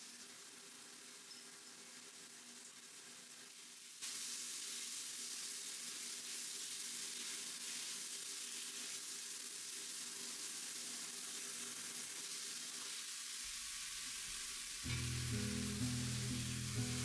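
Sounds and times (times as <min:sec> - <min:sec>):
food sizzling in a pan: 0:01.0 - 0:17.0.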